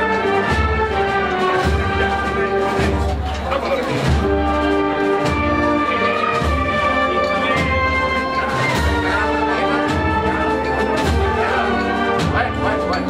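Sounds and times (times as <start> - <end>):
brass band playing slow march: 0.0 - 13.0.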